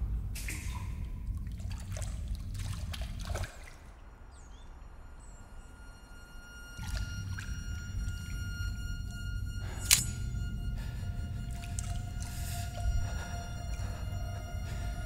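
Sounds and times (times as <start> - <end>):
water trickling and dripping: 0.0 - 5.2, 6.1 - 15.0
low rumble: 0.0 - 15.0.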